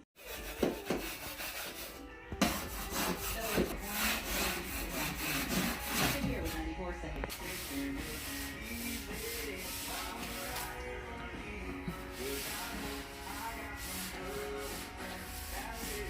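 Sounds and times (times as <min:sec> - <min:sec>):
hand sanding a wall: 0:00.2 - 0:06.7, 0:07.3 - 0:10.8, 0:12.0 - 0:16.0.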